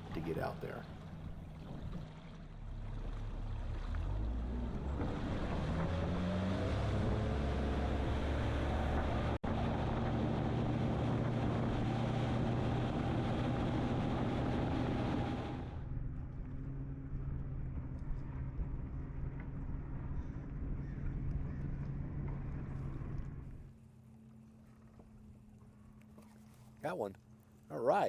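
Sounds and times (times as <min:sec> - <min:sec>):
outboard motor speeding up: 0:00.0 - 0:28.0.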